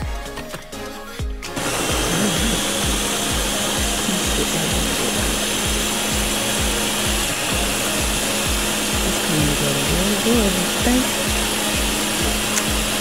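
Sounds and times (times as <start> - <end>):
background music: 0.0 - 13.0
blender running at high speed: 1.4 - 13.0.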